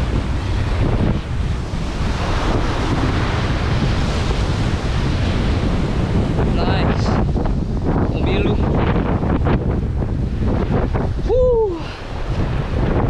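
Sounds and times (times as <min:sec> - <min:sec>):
surf breaking over rocks: 0:00.0 - 0:13.0
wind buffeting microphone: 0:00.0 - 0:13.0.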